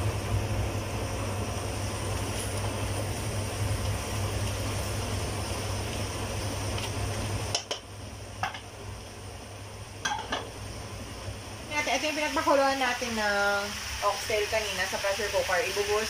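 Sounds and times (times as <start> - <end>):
meat sizzling in a pot: 0.0 - 16.0
steady low hum: 0.0 - 16.0.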